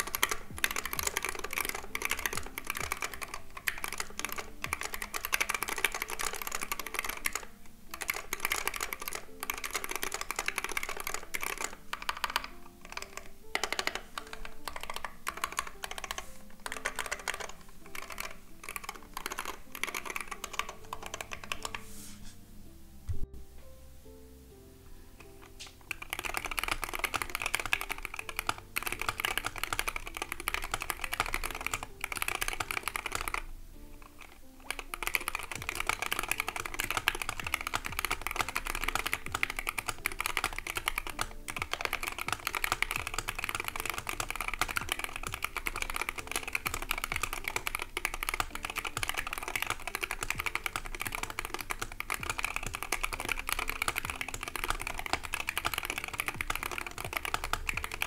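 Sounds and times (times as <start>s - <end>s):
fast typing on keyboard: 0.0s - 21.8s, 25.2s - 58.0s.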